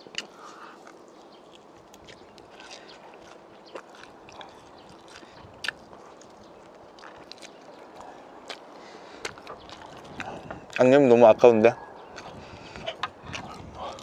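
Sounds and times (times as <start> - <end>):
wet mouth sounds: 0.0 - 10.9, 12.1 - 14.0
chewing and biting: 0.0 - 11.0, 12.0 - 14.0.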